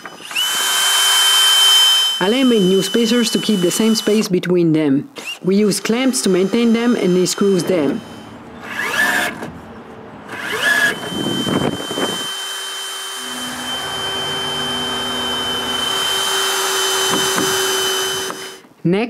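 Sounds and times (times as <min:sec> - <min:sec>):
cordless drill driving screws: 0:00.0 - 0:04.4, 0:05.2 - 0:09.5, 0:10.3 - 0:18.6.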